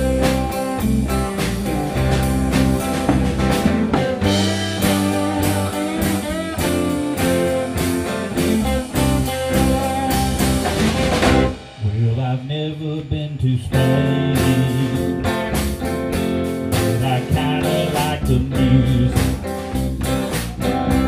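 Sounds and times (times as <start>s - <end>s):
drum kit: 0.0s - 21.0s
electric bass: 0.0s - 21.0s
electric guitar lead with bends: 0.0s - 21.0s.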